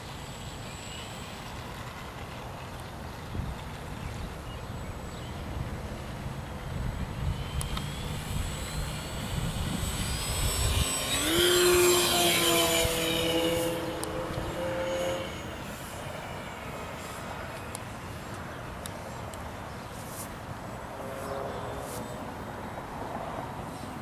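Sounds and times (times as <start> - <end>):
model plane motor whine: 0.0 - 19.2, 19.8 - 24.0.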